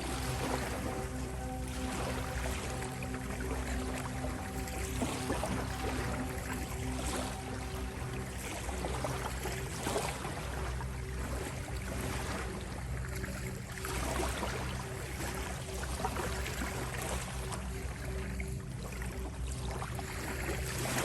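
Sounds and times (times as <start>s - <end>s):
low drone of held tones: 0.0s - 21.0s.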